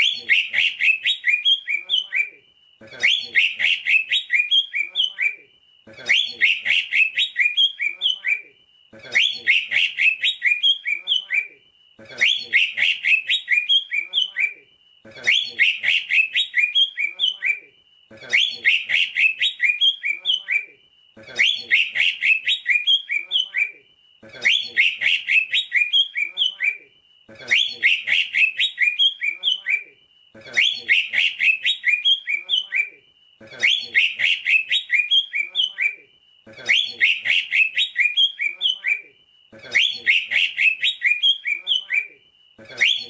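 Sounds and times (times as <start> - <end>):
bird singing chattering phrase: 0.0 - 43.0.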